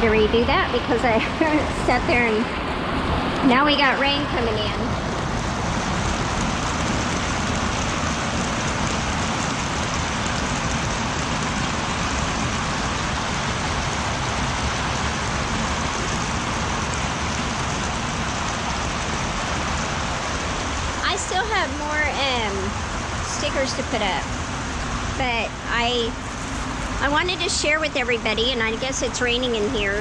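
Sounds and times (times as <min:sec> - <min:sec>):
rain on greenhouse: 0:00.0 - 0:30.0.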